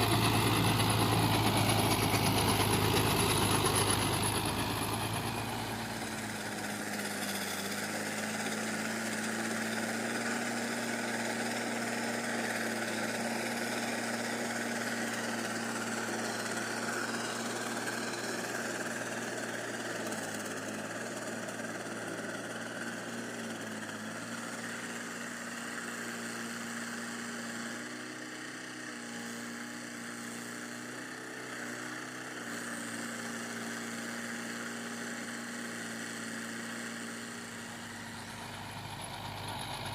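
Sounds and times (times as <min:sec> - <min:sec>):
tractor diesel engine running: 0:00.0 - 0:26.3, 0:32.1 - 0:39.9.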